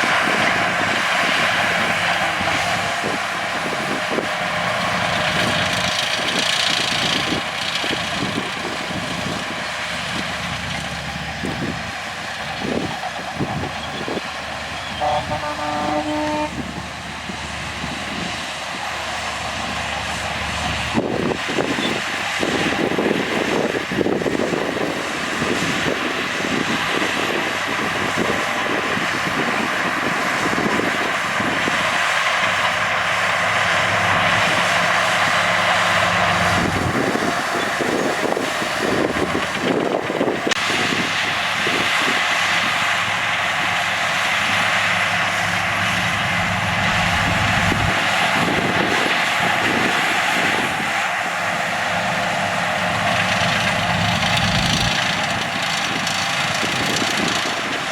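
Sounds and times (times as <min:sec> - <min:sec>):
heavy diesel machinery engine drone: 0:00.0 - 0:57.9.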